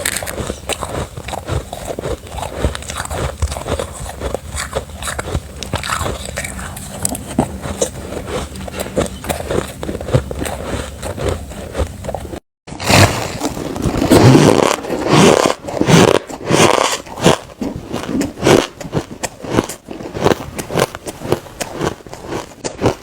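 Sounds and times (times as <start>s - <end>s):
crunchy ice being chewed: 0.0s - 23.0s.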